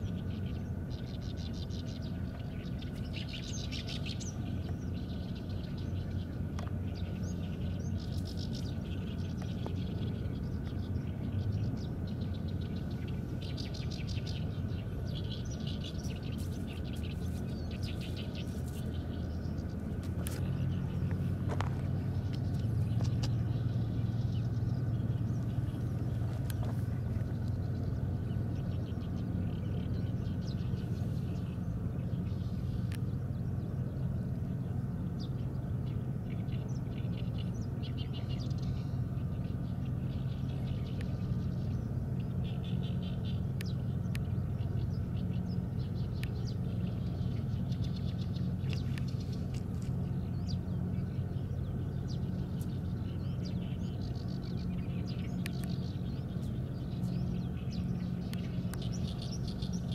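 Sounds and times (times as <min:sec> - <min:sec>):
low outdoor background hum: 0:00.0 - 0:59.9
small birds chirping: 0:00.0 - 0:59.9.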